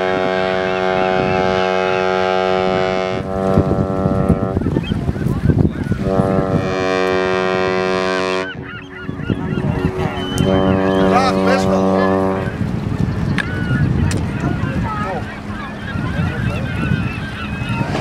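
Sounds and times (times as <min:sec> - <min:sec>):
ship's horn blasts: 0:00.0 - 0:04.7, 0:05.9 - 0:18.0.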